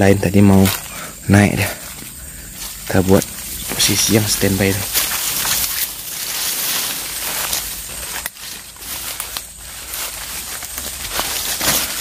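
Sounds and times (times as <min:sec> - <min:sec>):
footsteps through undergrowth: 0:00.0 - 0:12.0
rustling ferns: 0:00.0 - 0:12.0
twigs snapping underfoot: 0:00.6 - 0:01.0, 0:01.8 - 0:12.0.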